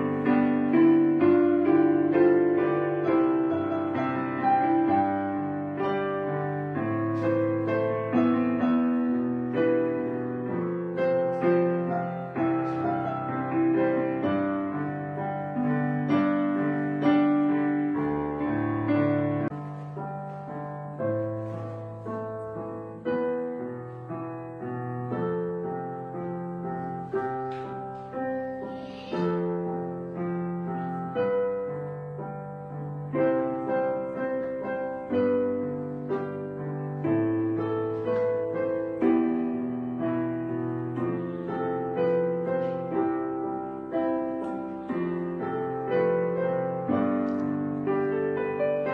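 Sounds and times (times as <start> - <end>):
gentle piano melody: 0.0 - 48.9.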